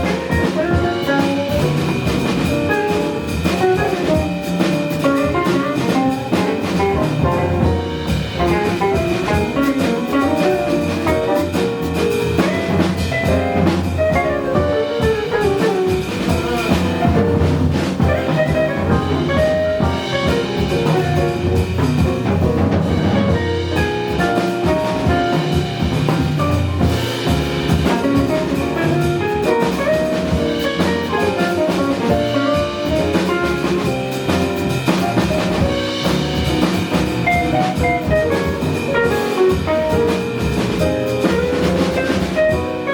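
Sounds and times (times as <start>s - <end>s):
jazz band playing: 0.0s - 42.9s.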